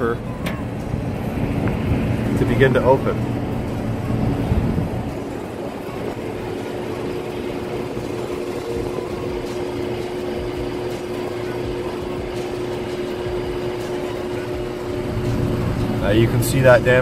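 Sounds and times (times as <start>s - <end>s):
actuator motor humming: 0.0s - 17.0s
rumble of rooftop hvac unit: 0.0s - 17.0s.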